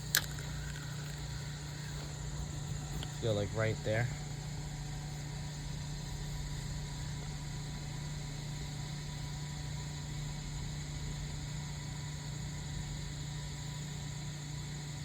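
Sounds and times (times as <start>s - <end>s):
even hiss: 0.0s - 13.2s
steady low motor hum: 0.0s - 15.0s.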